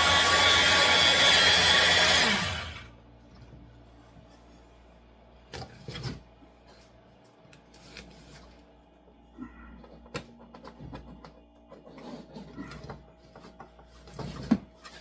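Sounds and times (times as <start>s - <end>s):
faint steady hum: 2.5s - 15.0s.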